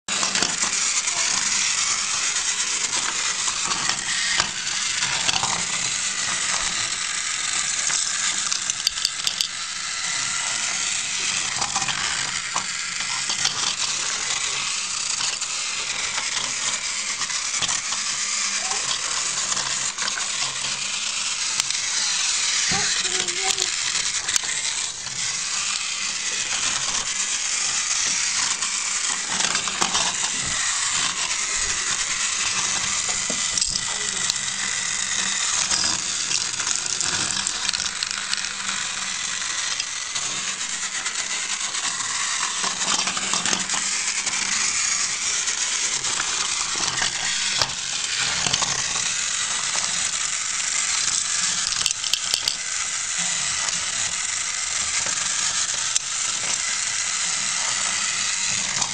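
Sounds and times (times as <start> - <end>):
plastic track clicks and clatters: 0.1 - 58.9
toy train motor whirring: 0.1 - 58.9.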